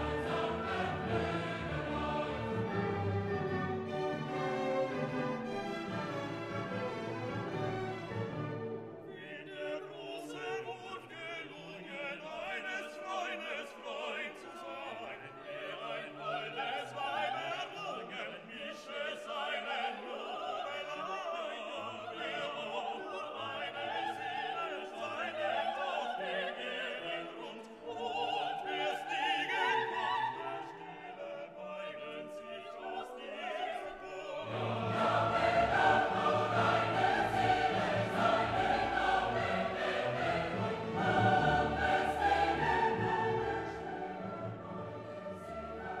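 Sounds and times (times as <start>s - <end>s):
operatic singing with orchestra: 0.0s - 46.0s.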